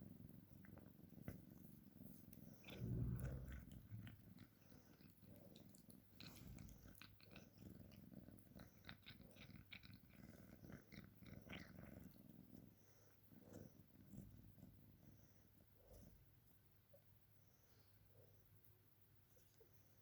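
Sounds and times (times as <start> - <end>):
kitten purring: 0.0 - 18.6.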